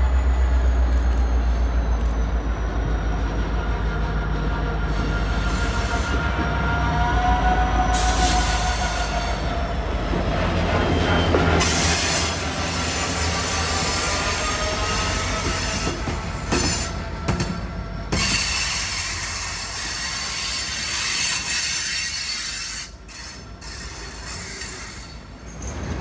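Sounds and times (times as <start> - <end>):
diesel locomotive engine rumbling: 0.0 - 26.0
steel wheels squealing on rail: 0.0 - 26.0.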